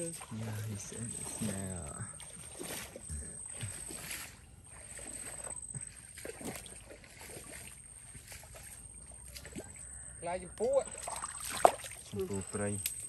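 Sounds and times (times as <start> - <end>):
splashing of muddy water: 0.0 - 9.8, 10.8 - 12.5.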